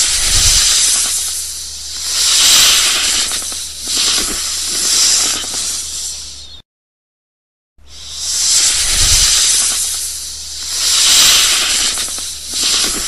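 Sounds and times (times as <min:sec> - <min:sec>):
snake hissing: 0:00.0 - 0:06.6, 0:07.8 - 0:13.0.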